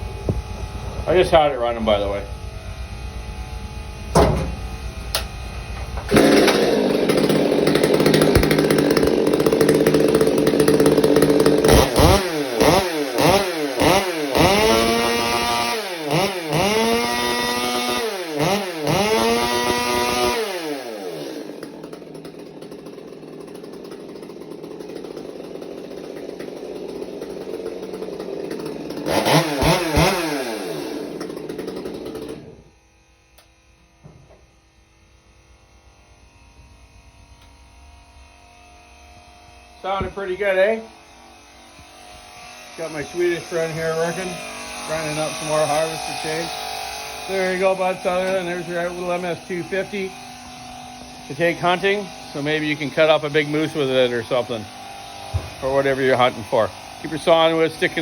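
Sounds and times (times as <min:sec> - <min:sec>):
chainsaw revving: 0:00.0 - 0:02.9, 0:04.2 - 0:32.8, 0:39.6 - 0:58.0.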